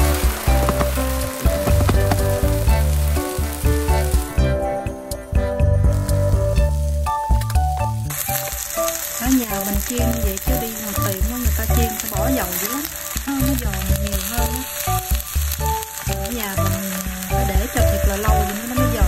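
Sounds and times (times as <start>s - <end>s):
crepe sizzling in oil: 0.0s - 4.6s, 8.0s - 19.0s
background music: 0.0s - 19.0s.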